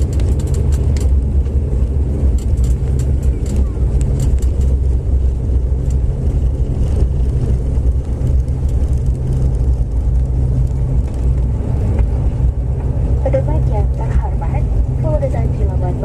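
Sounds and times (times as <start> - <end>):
aircraft engines rumbling: 0.0 - 16.0.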